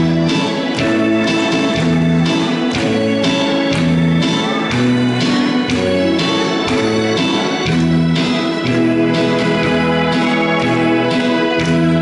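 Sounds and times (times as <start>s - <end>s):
ballad backing track: 0.0s - 12.0s.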